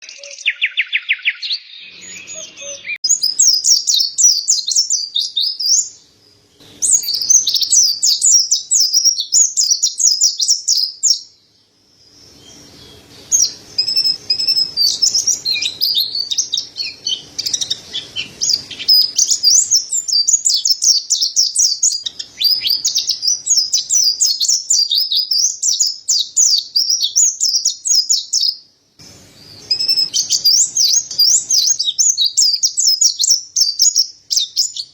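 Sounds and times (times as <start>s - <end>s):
bird twittering: 0.0s - 11.4s, 12.0s - 28.6s, 29.2s - 34.9s.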